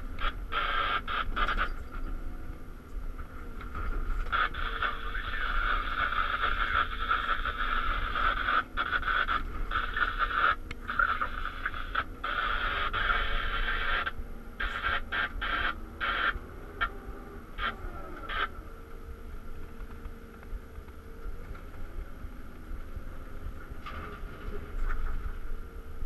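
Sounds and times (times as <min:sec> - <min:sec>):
diesel engine rumble: 0:00.0 - 0:26.0.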